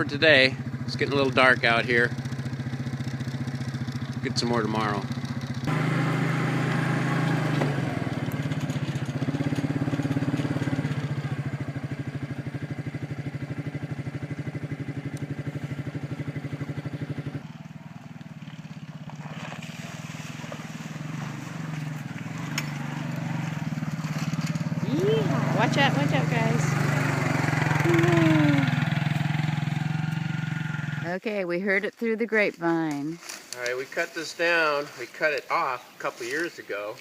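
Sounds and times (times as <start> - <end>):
atv engine running: 0.0 - 36.5.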